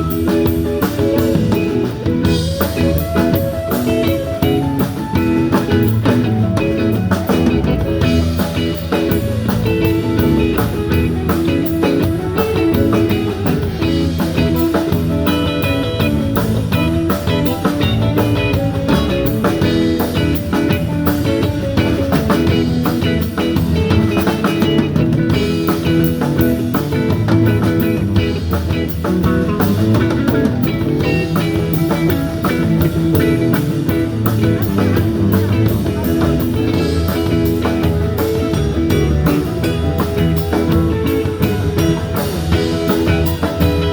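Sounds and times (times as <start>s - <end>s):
bass guitar: 0.0s - 43.9s
drum kit steady beat: 0.0s - 43.9s
electric guitar: 0.0s - 43.9s.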